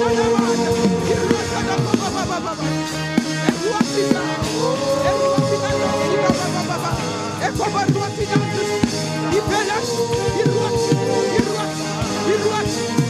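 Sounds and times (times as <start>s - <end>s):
drum kit steady beat: 0.0s - 13.0s
worship band playing: 0.0s - 13.0s.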